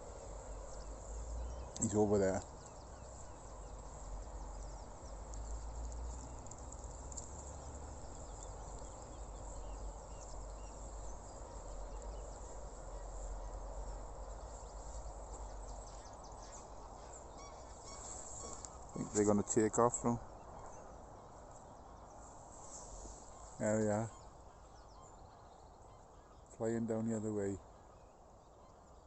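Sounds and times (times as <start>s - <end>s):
distant waterbird calls: 0.0s - 29.0s.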